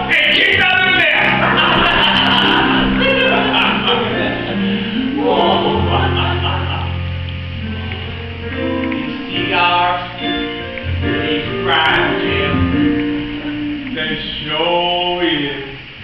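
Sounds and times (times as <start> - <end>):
person singing: 0.0 - 6.7, 7.6 - 15.7
plucked acoustic guitar: 0.0 - 14.1.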